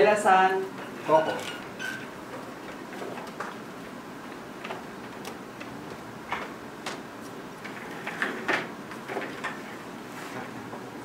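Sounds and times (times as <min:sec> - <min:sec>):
steady room hiss: 0:00.0 - 0:11.0.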